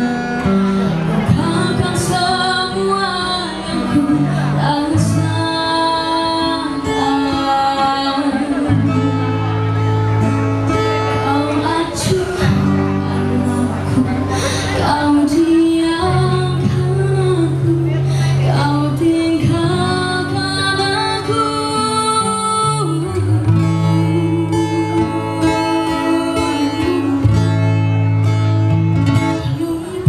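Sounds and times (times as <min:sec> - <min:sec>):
acoustic guitar: 0:00.0 - 0:30.0
woman singing: 0:01.1 - 0:09.6, 0:11.1 - 0:27.6, 0:29.2 - 0:30.0.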